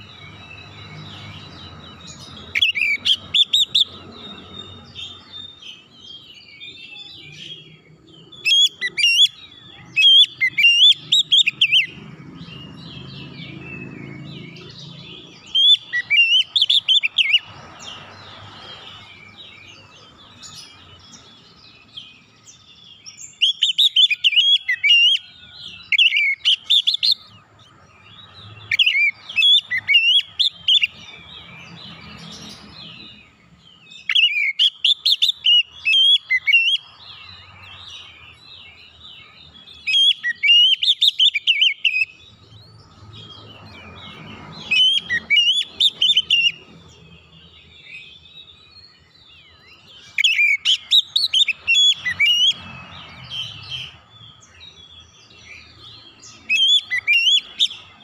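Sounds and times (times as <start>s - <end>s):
bird singing chirping whistles: 0.0s - 58.0s.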